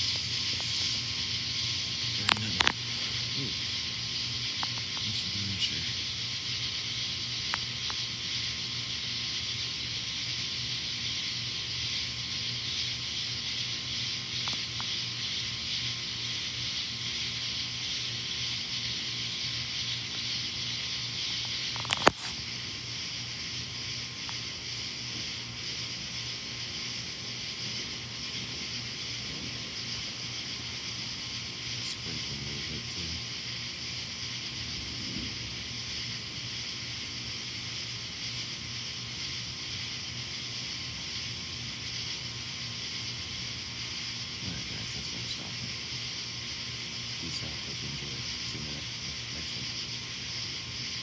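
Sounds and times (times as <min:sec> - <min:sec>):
high-pitched outdoor hiss: 0:00.0 - 0:51.0.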